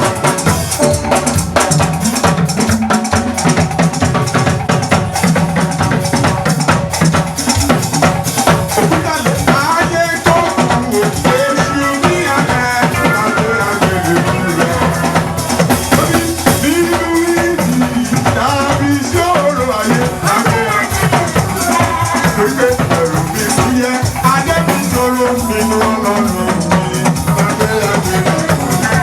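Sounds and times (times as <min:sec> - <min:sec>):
church band music: 0:00.0 - 0:29.0
drums: 0:00.0 - 0:29.0.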